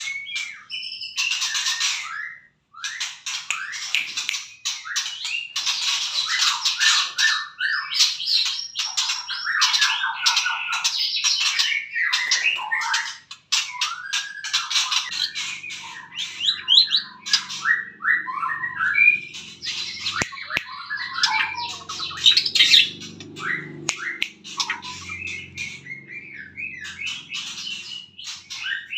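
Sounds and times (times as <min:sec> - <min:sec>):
bird singing varied song: 0:00.0 - 0:28.9.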